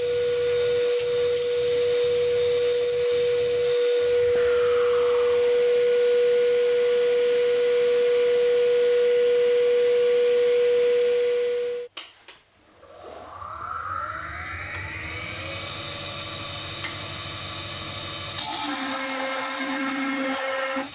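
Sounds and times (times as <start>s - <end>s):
wood lathe motor whine: 0.1s - 11.5s, 12.9s - 20.9s.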